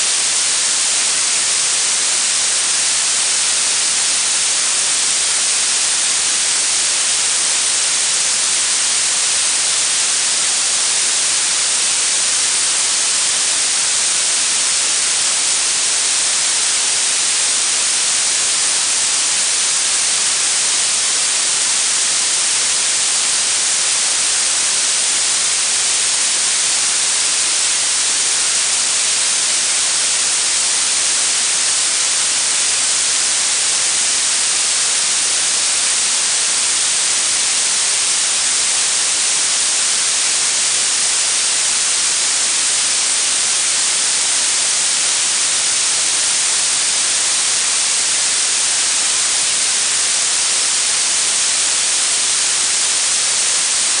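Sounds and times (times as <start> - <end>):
steady high-pitched hiss: 0.0 - 54.0.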